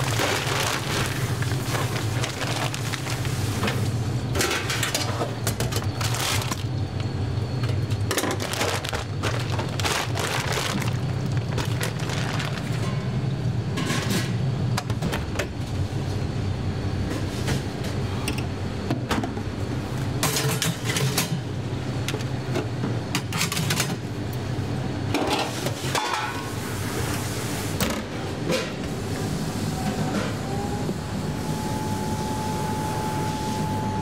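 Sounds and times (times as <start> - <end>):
low hum of kitchen machinery: 0.0 - 34.0.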